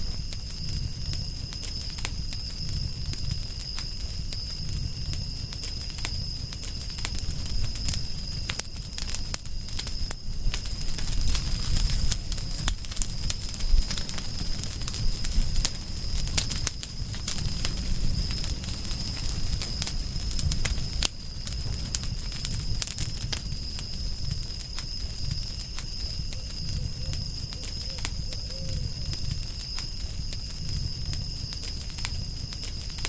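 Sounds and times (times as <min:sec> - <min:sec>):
campfire crackling and popping: 0:00.0 - 0:33.0
low rumble of burning wood: 0:00.0 - 0:33.0.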